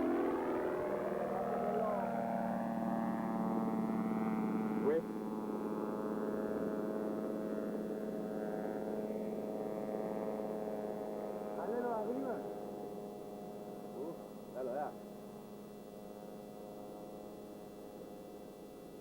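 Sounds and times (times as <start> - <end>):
aircraft engine droning: 0.0 - 18.3.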